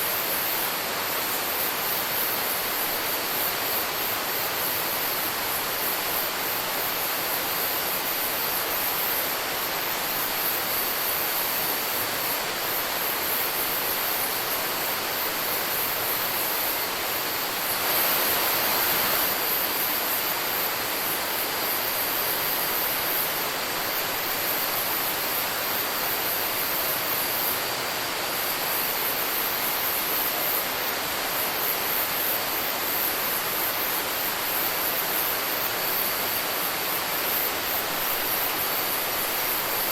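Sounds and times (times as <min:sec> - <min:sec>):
high-pitched insect chorus: 0:00.0 - 0:39.9
steady rushing hiss: 0:00.0 - 0:39.9.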